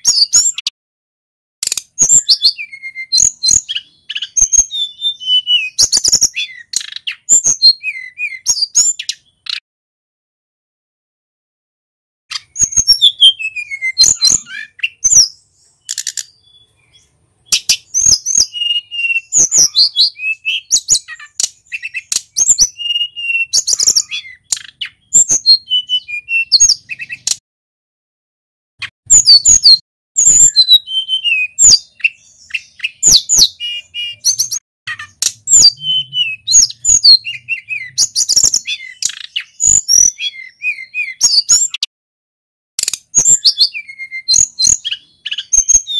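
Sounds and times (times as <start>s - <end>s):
songbird singing: 0.0s - 0.7s, 1.6s - 9.6s, 12.3s - 27.4s, 28.8s - 41.9s, 42.8s - 45.9s.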